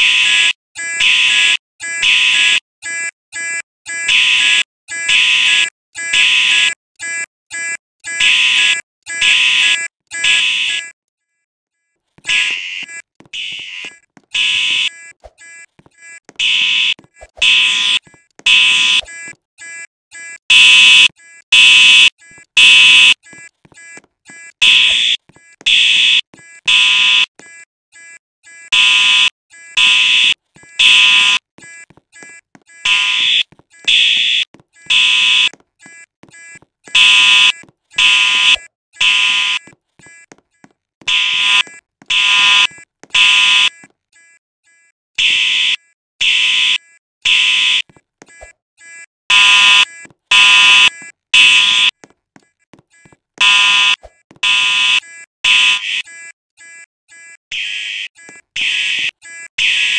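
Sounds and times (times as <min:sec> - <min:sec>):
fire alarm beeping: 0:00.0 - 0:11.0, 0:12.3 - 0:40.3, 0:41.1 - 0:43.8, 0:45.2 - 0:52.0, 0:53.4 - 0:59.9.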